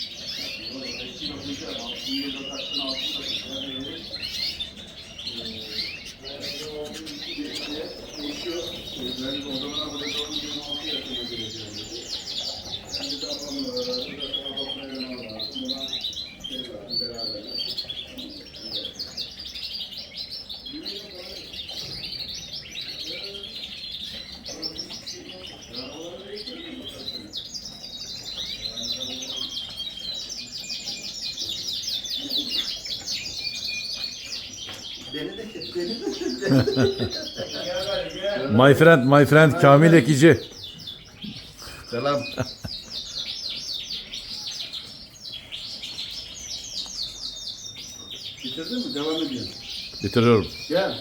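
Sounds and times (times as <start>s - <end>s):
canaries chirping and singing: 0.0s - 51.0s.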